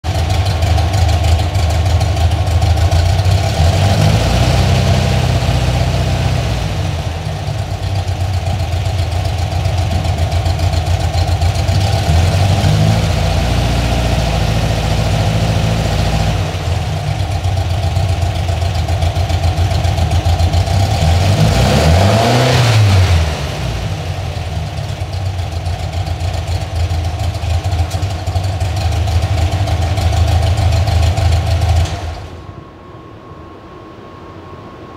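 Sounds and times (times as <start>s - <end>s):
car engine idling and revving: 0.0s - 32.6s.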